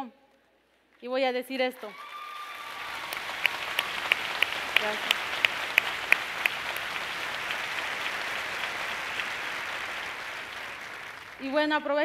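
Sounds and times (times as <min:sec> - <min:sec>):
sharp rhythmic claps: 0:01.5 - 0:12.0
audience applauding: 0:01.8 - 0:11.8.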